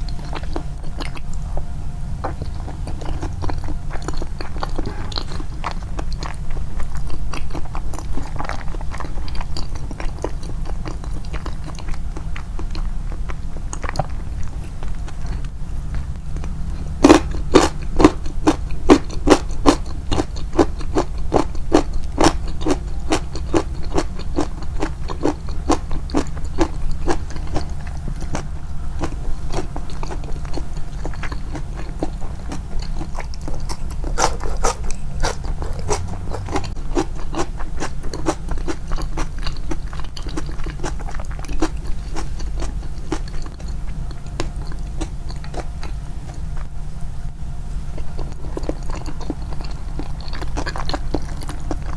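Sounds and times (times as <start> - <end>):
crunchy chewing of pickles: 0.0 - 51.9
steady low hum: 0.0 - 51.9.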